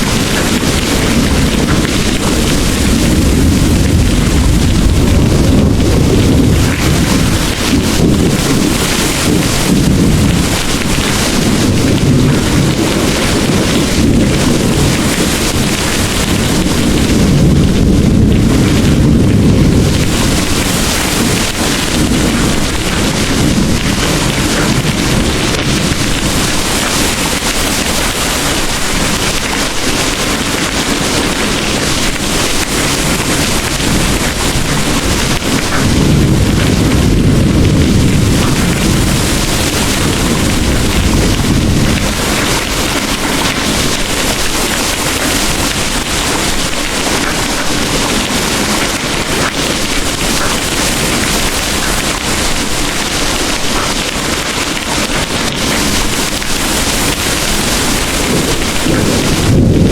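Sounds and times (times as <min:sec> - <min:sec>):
distant thunder rumble: 0:00.0 - 0:59.9
heavy rain pouring: 0:00.0 - 0:59.9.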